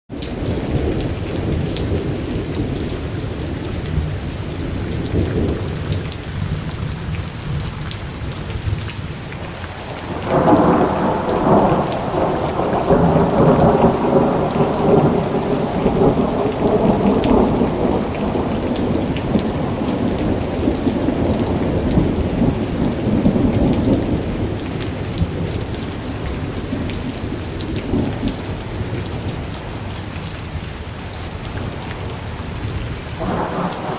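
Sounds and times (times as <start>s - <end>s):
crackling thunderclap: 0.1s - 29.9s, 31.6s - 33.9s
steady rain: 0.1s - 33.9s
low thunder rumbling: 0.2s - 30.0s, 31.6s - 33.9s.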